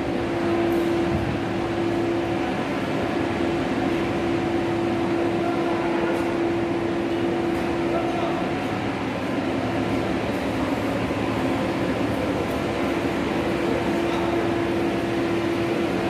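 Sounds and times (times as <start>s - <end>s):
workshop machine hum: 0.0s - 16.0s.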